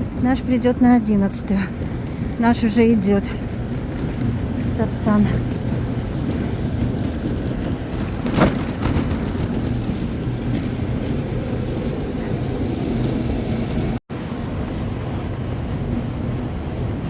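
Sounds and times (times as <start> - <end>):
passing train rumble: 0.0 - 17.0.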